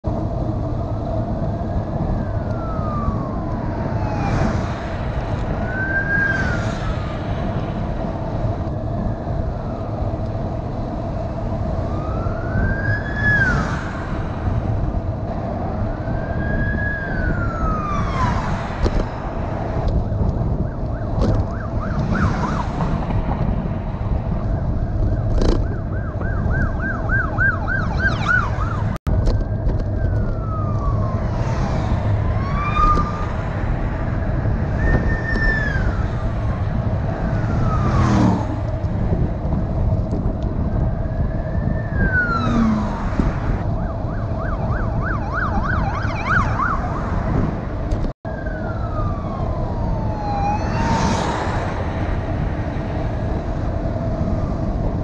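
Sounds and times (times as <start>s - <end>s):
wind and road noise: 0.0s - 55.0s
police sirens wailing and yelping: 0.3s - 39.8s, 40.5s - 55.0s.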